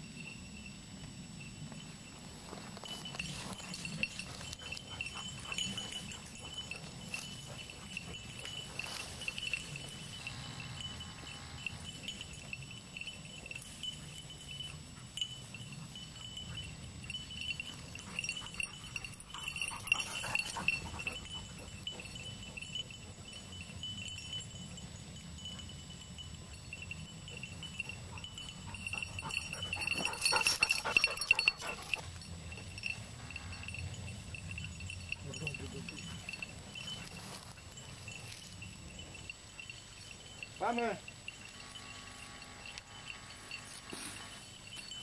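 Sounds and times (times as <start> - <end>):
dog collar bell jingling: 0.0 - 45.0.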